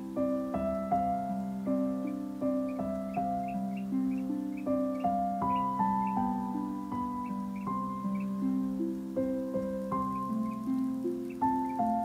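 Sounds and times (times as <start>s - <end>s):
slow gentle keyboard melody: 0.0s - 12.0s.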